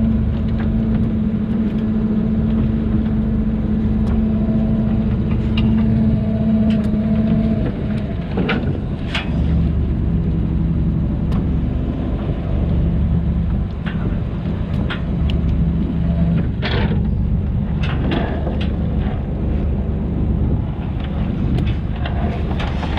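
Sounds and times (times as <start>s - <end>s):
boat engine running: 0.0s - 22.9s.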